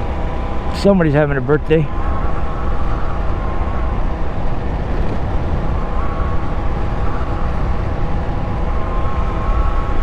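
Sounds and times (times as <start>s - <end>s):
wind rumbling on microphone: 1.5s - 10.0s.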